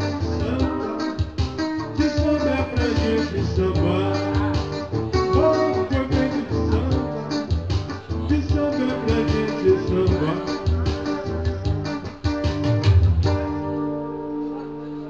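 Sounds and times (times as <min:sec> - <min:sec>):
steady beat: 0:00.0 - 0:14.7
guitar playing: 0:00.0 - 0:15.0.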